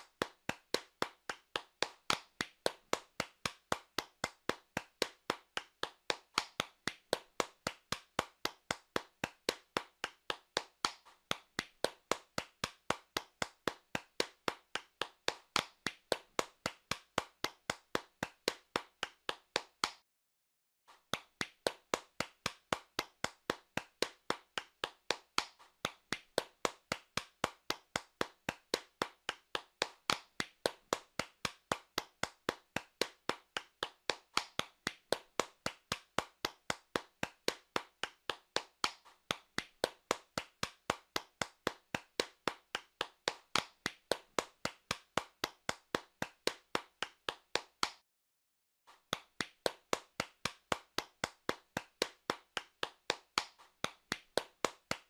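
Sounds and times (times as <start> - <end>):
hands clapping rhythmically: 0.0 - 20.0, 20.9 - 48.0, 48.9 - 55.0.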